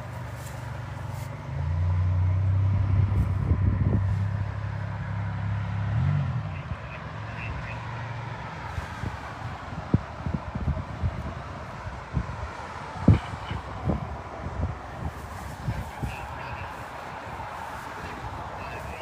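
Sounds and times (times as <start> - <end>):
vehicle engine passing: 0.0 - 19.0.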